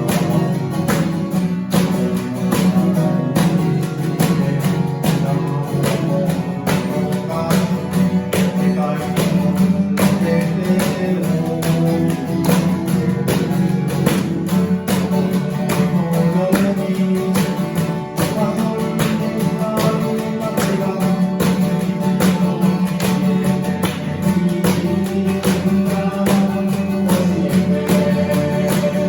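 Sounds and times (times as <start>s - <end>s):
live band playing: 0.0s - 29.0s
strummed acoustic guitar: 0.0s - 29.0s.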